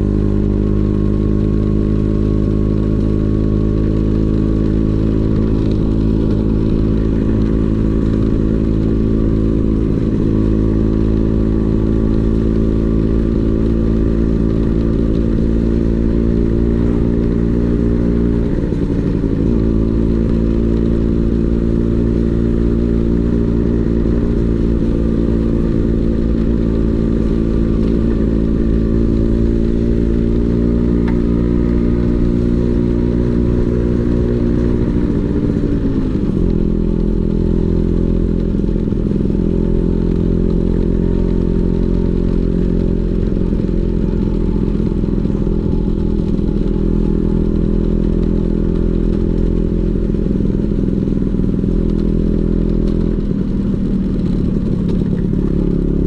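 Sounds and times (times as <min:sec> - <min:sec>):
scooter engine droning: 0:00.0 - 0:56.0.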